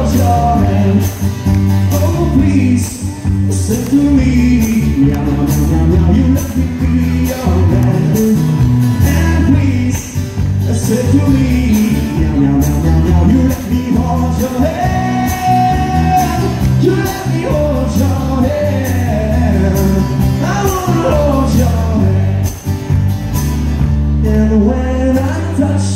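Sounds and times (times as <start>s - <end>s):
man singing lead: 0.0s - 22.7s, 24.1s - 25.9s
drums: 0.0s - 25.9s
electric bass: 0.0s - 25.9s
strummed acoustic guitar: 0.0s - 25.9s.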